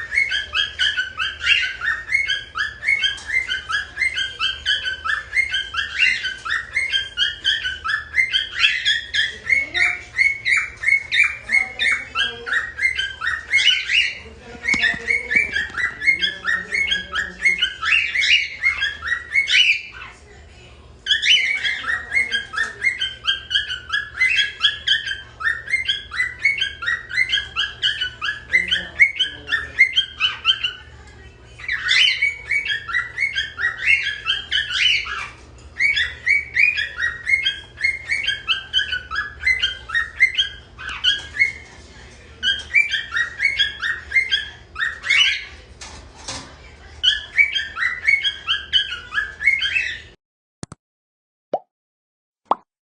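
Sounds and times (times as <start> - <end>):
cockatiel chirping: 0.0 - 20.4, 21.0 - 41.8, 42.4 - 45.7, 46.3 - 50.2.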